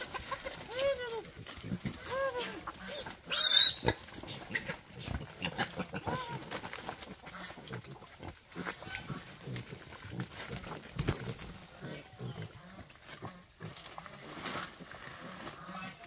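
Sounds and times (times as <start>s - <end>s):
hens clucking: 0.0s - 13.6s
boars feeding on leaves: 0.0s - 16.0s.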